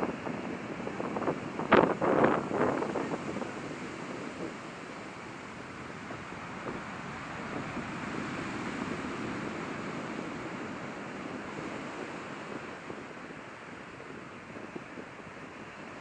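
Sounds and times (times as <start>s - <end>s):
surf breaking on shore: 0.0s - 16.0s
wind: 0.0s - 16.0s.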